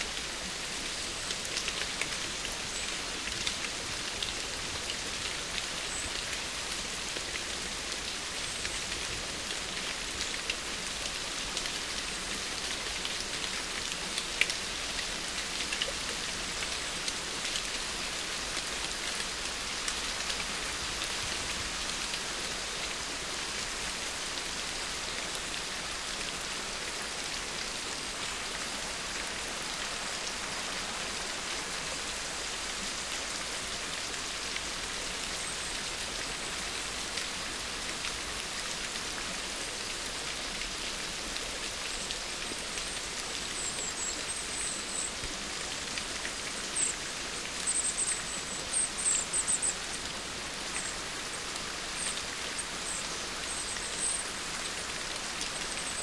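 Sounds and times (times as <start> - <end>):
steady rain-like hiss: 0.0 - 56.0.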